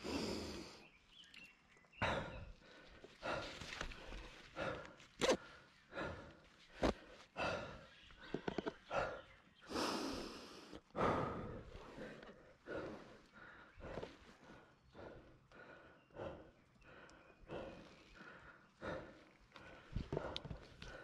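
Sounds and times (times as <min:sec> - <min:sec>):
person panting heavily: 0:00.0 - 0:00.9, 0:02.0 - 0:21.0.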